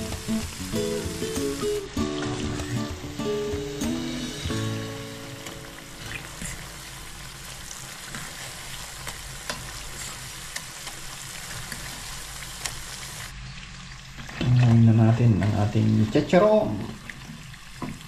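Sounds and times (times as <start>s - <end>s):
mushrooms sizzling in oil: 0.0s - 18.0s.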